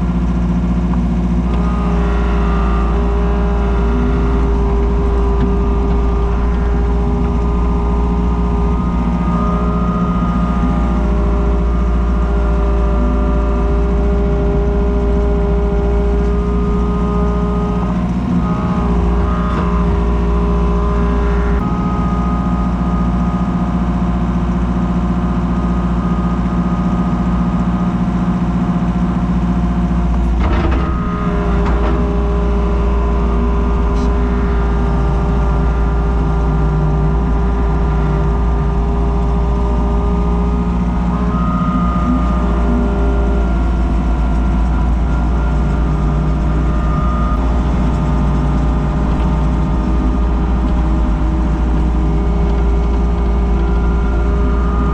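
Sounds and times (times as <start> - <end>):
skid steer engine running: 0.0 - 54.9.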